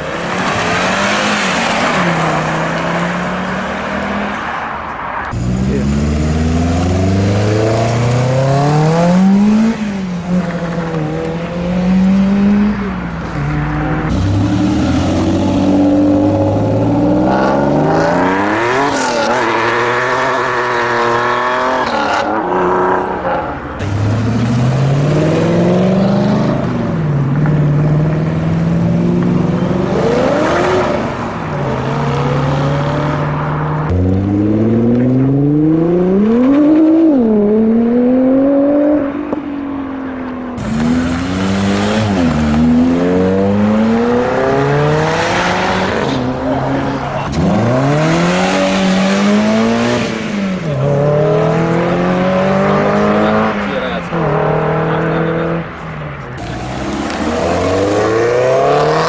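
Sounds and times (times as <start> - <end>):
cars accelerating hard: 0.0 - 59.0.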